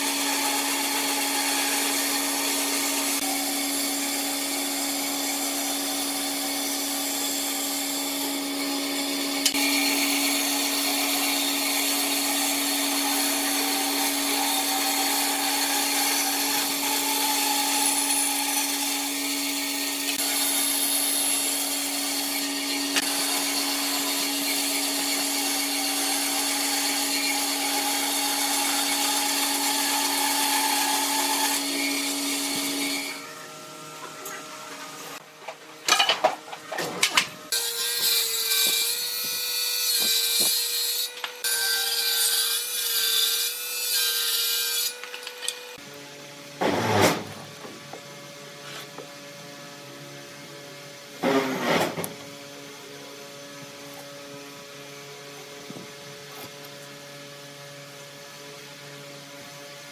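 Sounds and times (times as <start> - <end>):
bandsaw cutting wood: 0.0 - 35.3, 35.9 - 49.3, 50.8 - 57.9.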